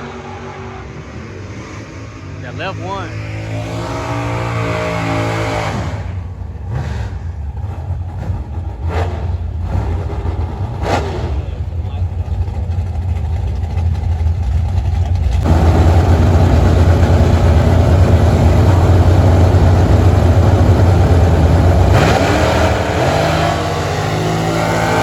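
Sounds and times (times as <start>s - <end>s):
engine revving up: 0.0s - 11.8s, 15.3s - 25.0s
race car engine at full throttle: 0.0s - 25.0s.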